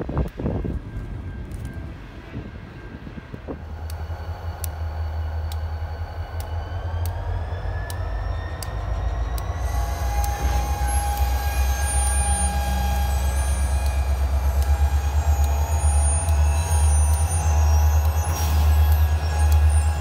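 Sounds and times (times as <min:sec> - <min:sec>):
diesel locomotives rumbling: 0:00.0 - 0:20.0
thin steady whine: 0:00.0 - 0:20.0.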